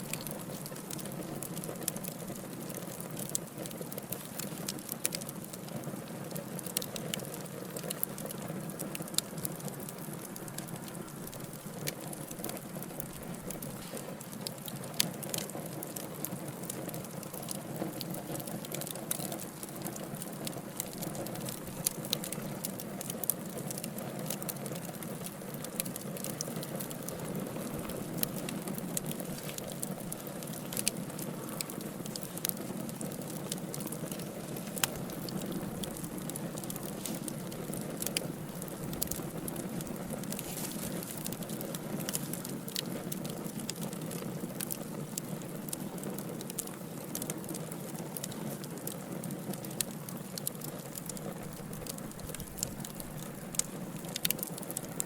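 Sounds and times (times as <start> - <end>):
flames rushing: 0.0 - 55.0
logs crackling and popping: 0.0 - 55.0.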